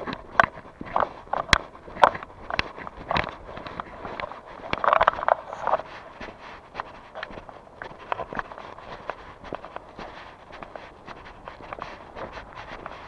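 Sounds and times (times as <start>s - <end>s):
footsteps scuffing on ground: 0.0s - 13.0s.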